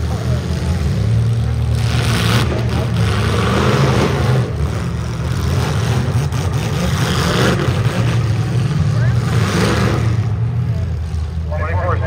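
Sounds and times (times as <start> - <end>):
loud car engines rumbling: 0.0 - 12.0.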